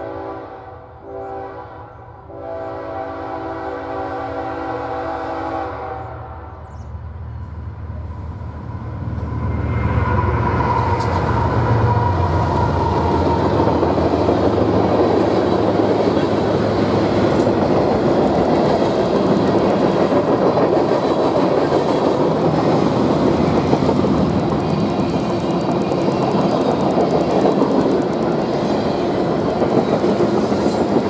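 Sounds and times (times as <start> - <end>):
locomotive engine hum: 6.0 - 31.0.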